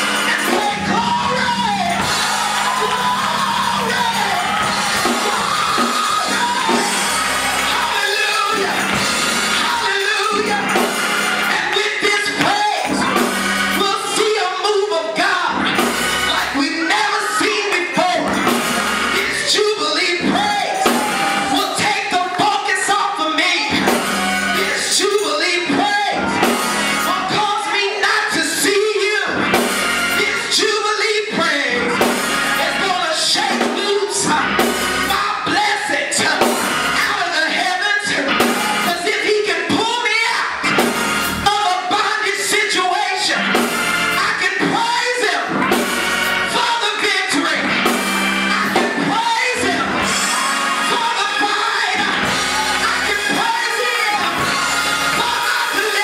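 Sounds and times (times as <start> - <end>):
drum kit: 0.0 - 14.4, 15.5 - 16.6, 17.3 - 22.5, 23.6 - 27.5, 28.5 - 30.6, 31.9 - 35.5, 36.1 - 40.0, 40.6 - 41.7, 43.4 - 56.0
organ: 0.0 - 56.0.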